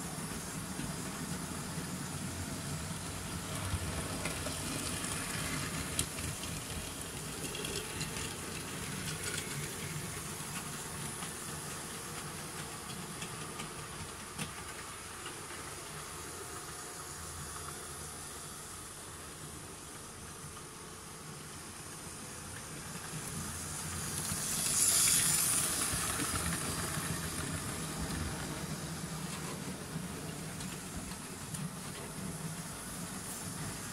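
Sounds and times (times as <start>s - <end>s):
model train motor: 0.0s - 19.9s, 20.5s - 33.9s
steady hiss: 0.0s - 33.9s.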